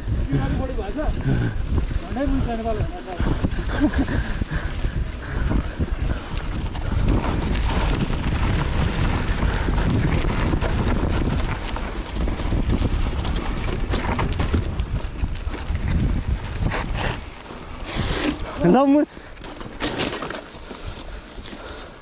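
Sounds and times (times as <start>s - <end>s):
wind buffeting microphone: 0.0s - 19.4s
bike rattling over bumps: 0.0s - 22.0s
tyre and frame rumble: 0.0s - 22.0s.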